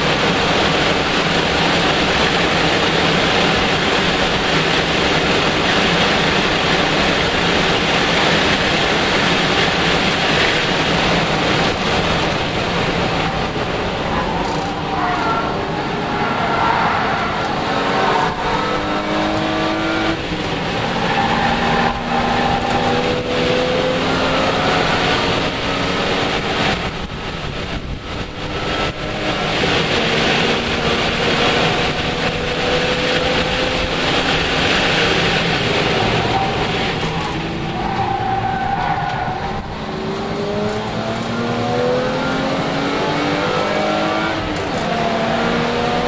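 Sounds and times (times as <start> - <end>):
race car engine accelerating: 0.0 - 46.0
road and wind noise: 0.0 - 46.0.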